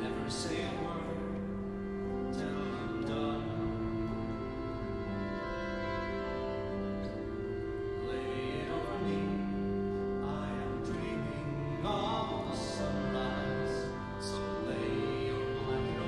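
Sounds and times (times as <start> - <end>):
bowed string instrument: 0.0 - 16.0.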